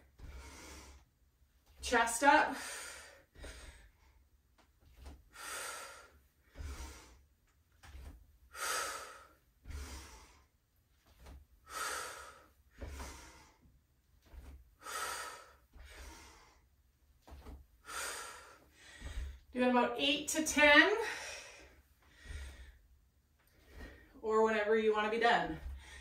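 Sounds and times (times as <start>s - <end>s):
woman breathing: 0.0s - 1.1s, 2.5s - 4.3s, 4.9s - 7.3s, 7.9s - 19.5s, 20.7s - 24.2s, 25.6s - 26.0s.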